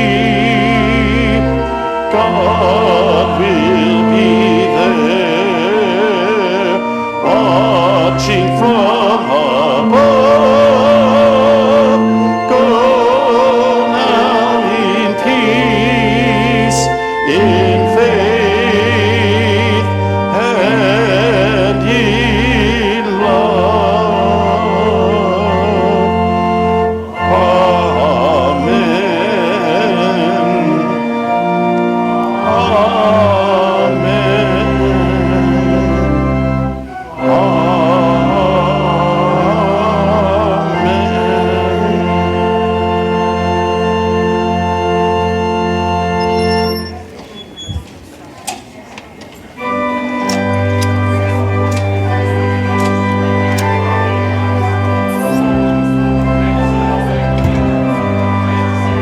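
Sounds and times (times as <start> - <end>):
person singing with vibrato: 0.0 - 47.7
sustained bass notes: 0.0 - 48.0, 49.6 - 59.0
held chords: 0.0 - 59.0.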